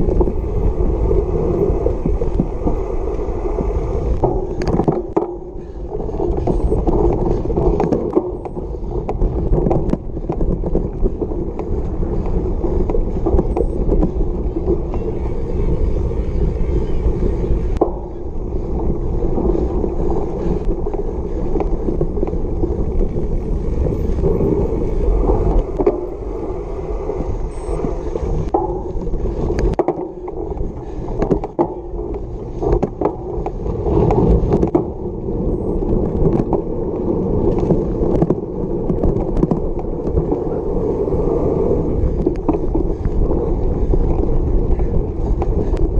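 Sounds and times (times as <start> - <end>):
bike tyres rolling rumble: 0.0 - 45.9
bike knocks and rattles: 3.6 - 26.5, 28.3 - 40.6, 41.8 - 45.9.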